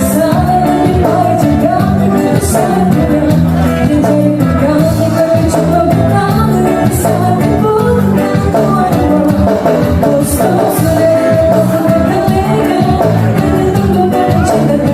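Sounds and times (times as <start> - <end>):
bass line: 0.0 - 14.9
drums: 0.0 - 14.9
person singing: 0.0 - 14.9.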